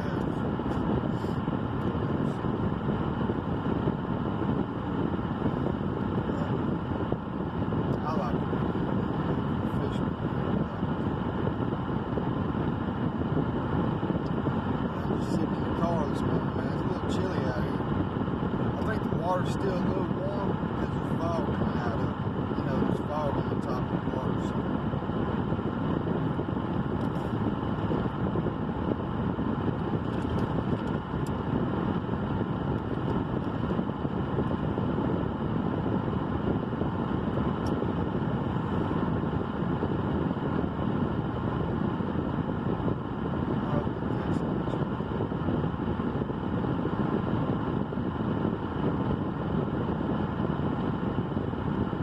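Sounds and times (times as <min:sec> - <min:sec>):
low rumble inside car: 0:00.0 - 0:52.0.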